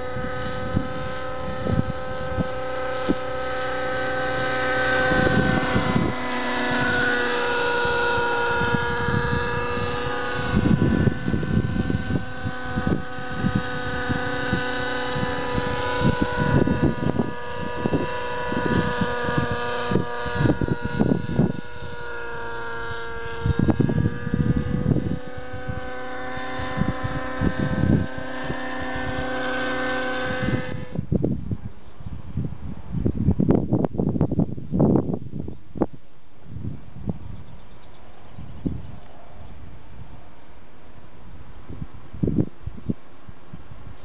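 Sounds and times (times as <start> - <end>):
model aircraft engine running: 0.0 - 44.0
wind buffeting microphone: 0.0 - 44.0.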